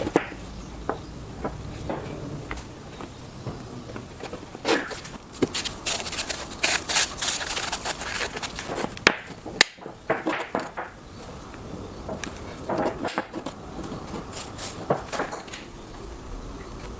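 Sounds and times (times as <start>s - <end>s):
wooden pieces knocking and tapping: 0.0s - 15.8s.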